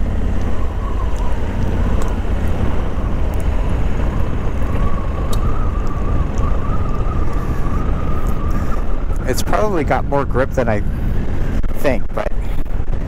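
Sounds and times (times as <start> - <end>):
faint steady whine: 0.0 - 13.0
motorcycle engine and road rumble: 0.0 - 13.0.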